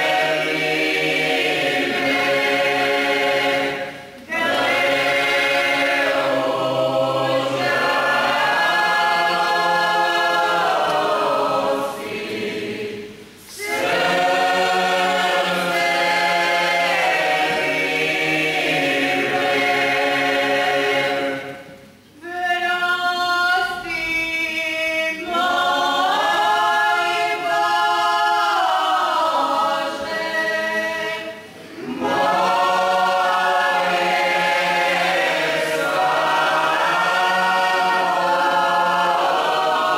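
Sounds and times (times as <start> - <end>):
mixed choir singing a hymn unaccompanied: 0.0 - 39.9.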